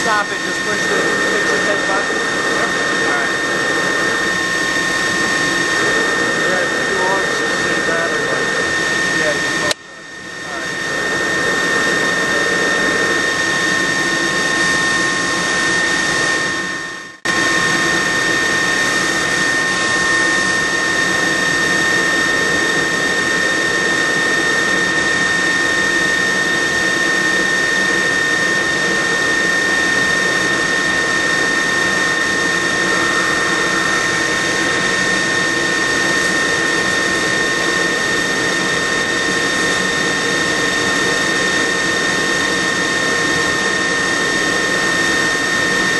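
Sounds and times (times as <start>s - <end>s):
high machine whine: 0.0s - 45.9s.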